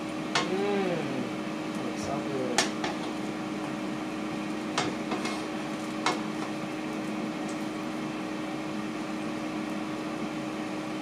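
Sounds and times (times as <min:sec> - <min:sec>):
air fryer fan hum: 0:00.0 - 0:11.0.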